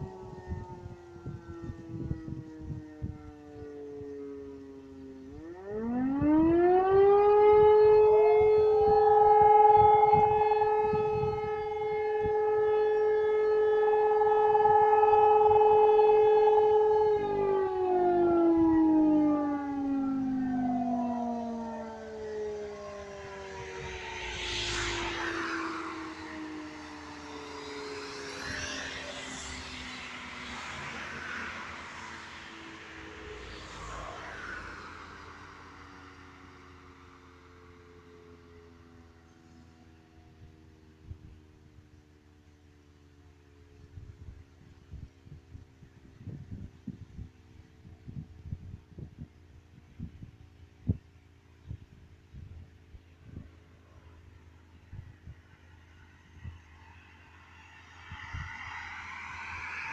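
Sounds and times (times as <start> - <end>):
motor siren wailing: 0.0 - 59.9.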